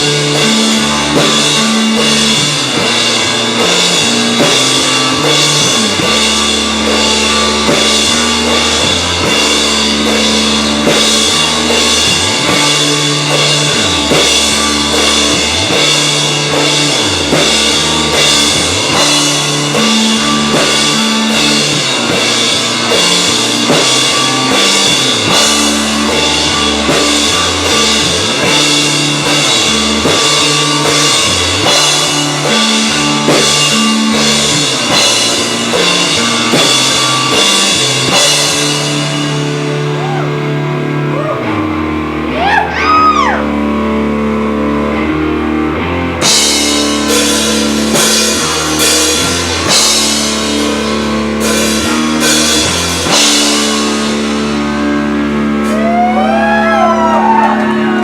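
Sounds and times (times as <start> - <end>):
drum kit with cymbals: 0.0 - 45.0, 45.8 - 58.0
bass guitar: 0.0 - 58.0
electric guitar: 0.0 - 58.0.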